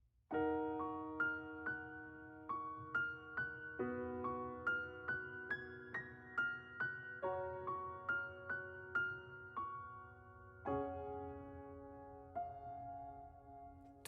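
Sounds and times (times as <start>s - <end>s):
slow piano music: 0.3s - 14.0s.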